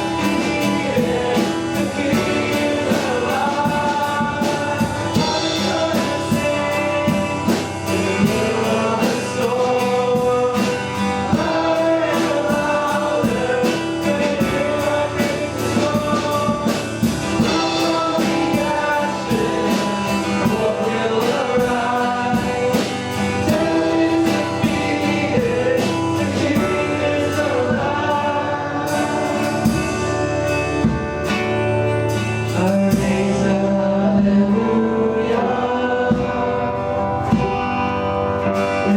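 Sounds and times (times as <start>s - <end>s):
voices singing along: 0.0s - 38.9s
worship band playing: 0.0s - 38.9s.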